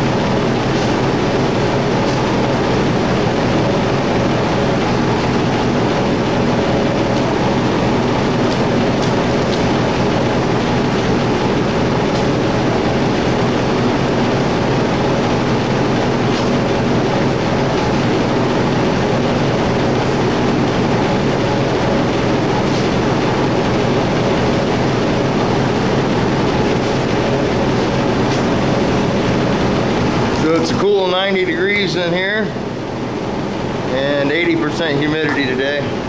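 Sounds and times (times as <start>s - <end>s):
machine drone with low hum: 0.0s - 36.0s.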